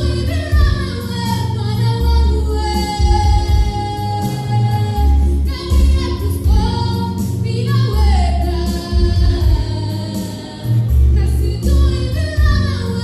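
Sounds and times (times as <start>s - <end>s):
choir singing gospel song: 0.0s - 13.0s
heavy repeated bass notes: 0.0s - 13.0s.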